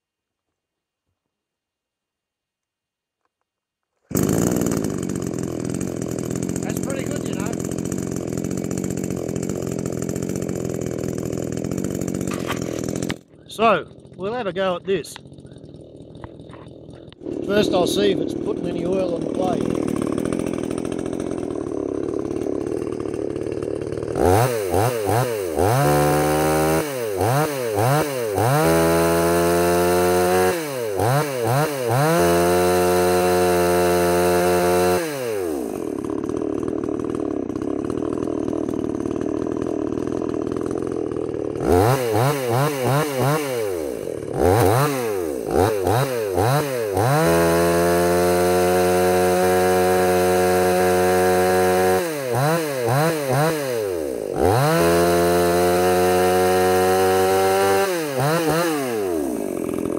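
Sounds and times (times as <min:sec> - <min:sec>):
chainsaw idling and revving: 0:04.1 - 0:59.9.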